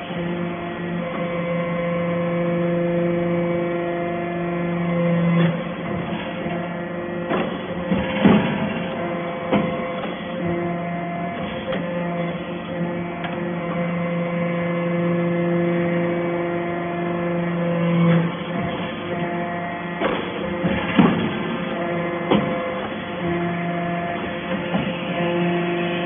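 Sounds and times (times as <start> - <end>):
baler motor and pump hum: 0.0 - 26.0.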